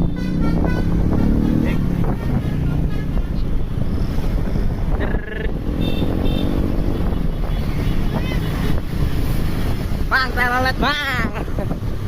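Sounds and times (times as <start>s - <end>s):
bus passing: 0.0s - 12.0s
wind buffeting microphone: 0.0s - 12.0s.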